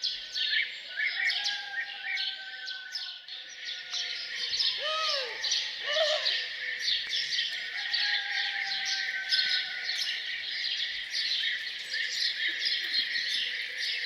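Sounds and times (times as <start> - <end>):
small birds chirping and singing: 0.0 - 14.0.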